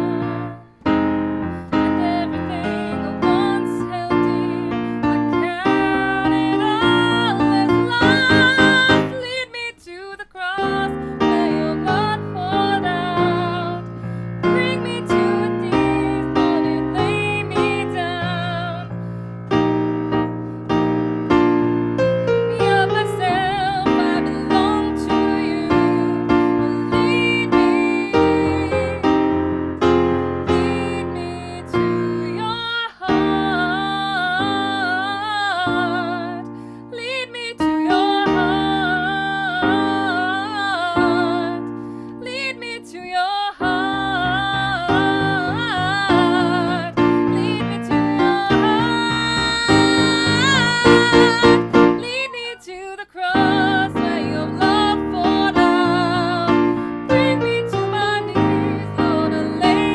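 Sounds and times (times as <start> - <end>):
woman singing with vibrato: 0.0 - 0.8, 1.7 - 18.9, 22.5 - 29.1, 30.4 - 59.9
slow piano worship song: 0.0 - 59.9.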